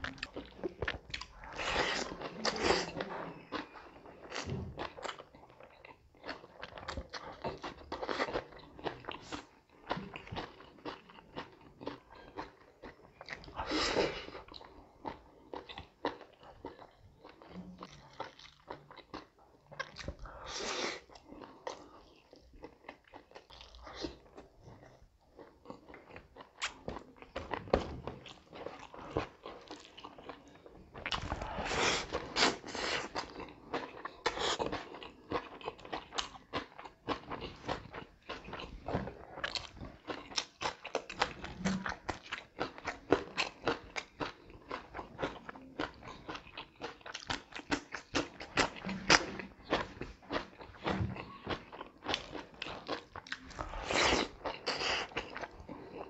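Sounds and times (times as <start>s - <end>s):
person chewing and biting food: 0.0s - 56.0s.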